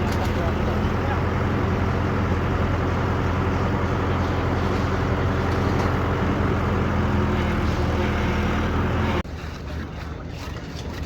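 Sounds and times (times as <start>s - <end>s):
construction machinery engine running: 0.0s - 9.2s.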